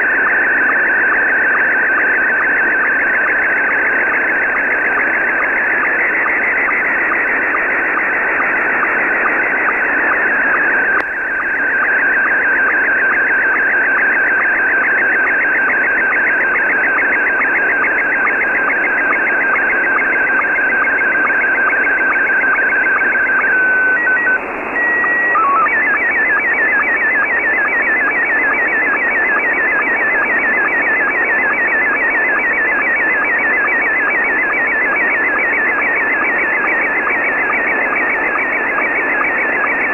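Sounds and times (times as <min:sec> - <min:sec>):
warbling radio signal whistle: 0:00.0 - 0:39.9.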